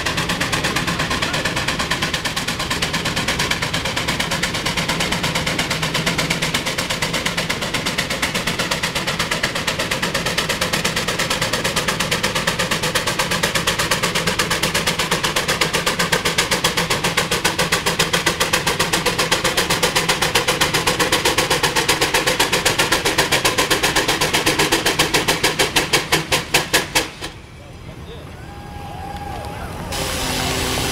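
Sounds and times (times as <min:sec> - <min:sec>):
steam tractor exhaust chuffing: 0:00.0 - 0:27.9, 0:29.8 - 0:30.9.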